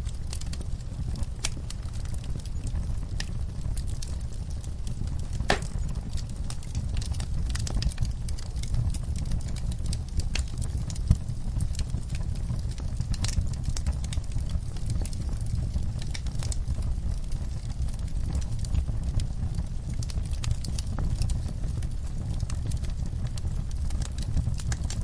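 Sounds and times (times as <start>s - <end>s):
low rumble of flame: 0.0s - 25.0s
wood fire crackling and popping: 0.0s - 25.0s.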